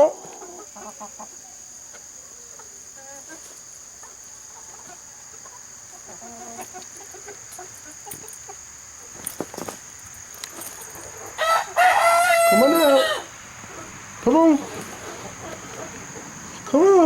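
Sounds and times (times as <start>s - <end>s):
chickens clucking quietly: 0.0s - 9.8s, 10.5s - 17.0s.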